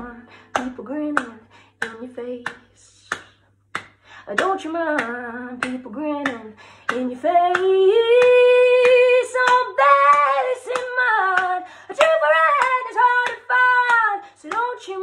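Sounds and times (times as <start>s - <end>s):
woman singing blues a cappella: 0.0s - 3.4s, 4.1s - 15.0s
finger snaps: 0.5s - 14.7s.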